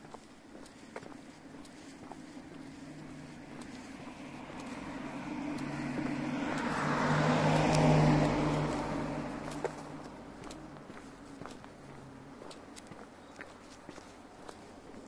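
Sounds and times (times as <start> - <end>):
road vehicle passing: 0.8 - 15.0.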